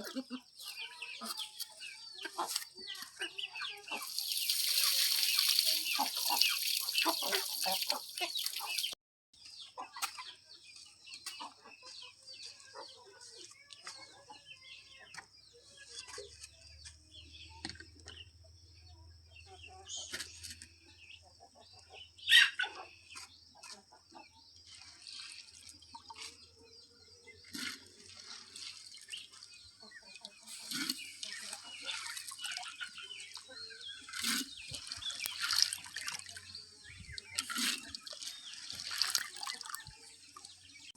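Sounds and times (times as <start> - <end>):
chickens clucking: 0.0 - 9.0, 9.6 - 17.0, 19.4 - 24.4, 25.9 - 40.9.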